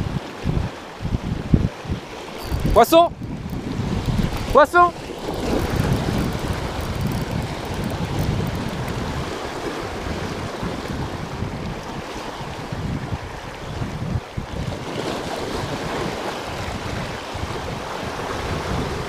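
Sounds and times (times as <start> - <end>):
waves washing over rocks: 0.0 - 19.0
wind buffeting microphone: 0.0 - 19.0.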